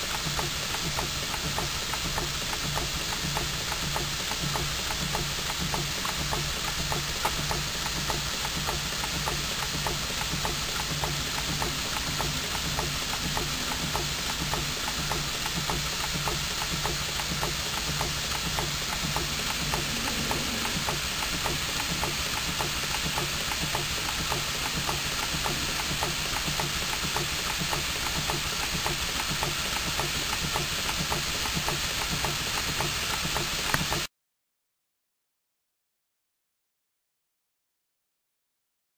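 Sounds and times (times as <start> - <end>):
hiss of air: 0.0 - 34.1
model engine running: 0.0 - 34.1.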